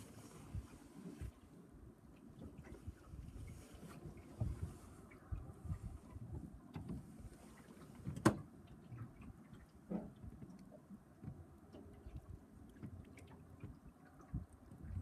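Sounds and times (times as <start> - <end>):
waves slapping boat hull: 0.0 - 15.0.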